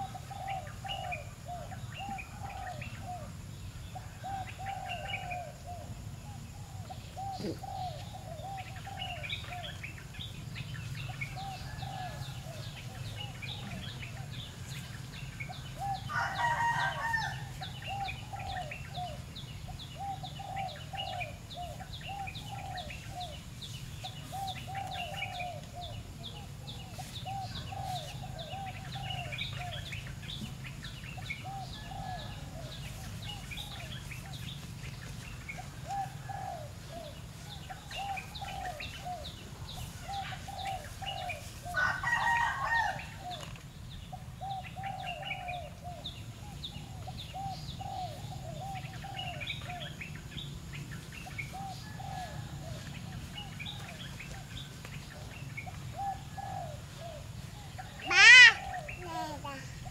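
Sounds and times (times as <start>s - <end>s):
repeated low bird calls: 0.0s - 59.9s.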